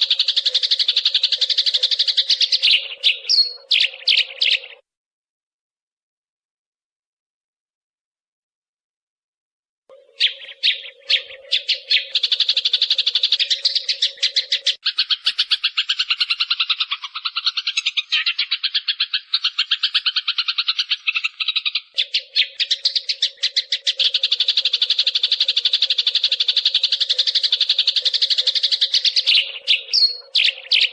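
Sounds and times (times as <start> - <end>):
sparrows chirping: 0.0 - 4.8, 9.9 - 30.9.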